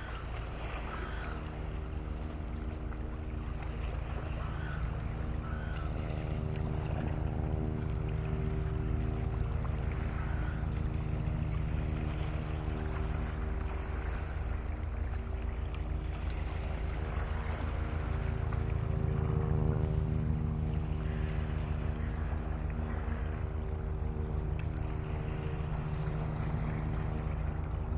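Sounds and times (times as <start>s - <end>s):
engine humming steadily: 0.0s - 27.9s.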